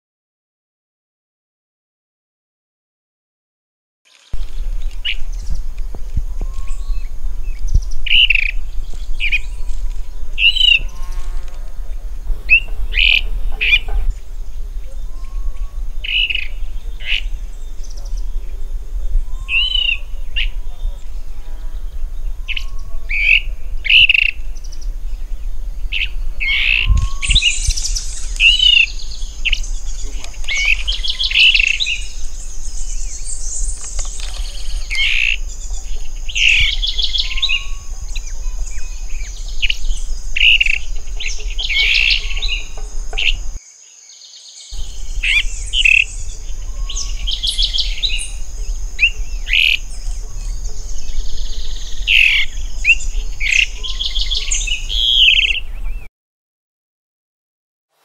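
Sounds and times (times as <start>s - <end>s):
birds chirping: 4.1s - 56.1s
steady high-pitched buzz: 4.4s - 43.6s, 44.8s - 55.9s.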